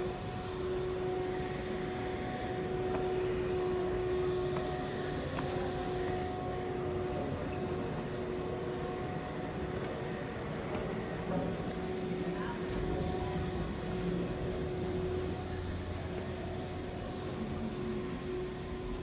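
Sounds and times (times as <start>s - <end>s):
hall background drone: 0.0s - 19.0s.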